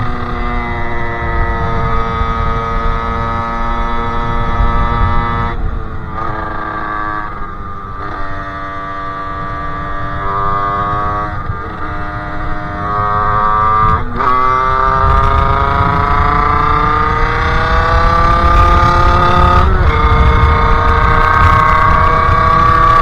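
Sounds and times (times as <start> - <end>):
two-stroke motorcycle engine: 0.0 - 23.0
wind rumble on microphone: 0.0 - 23.0.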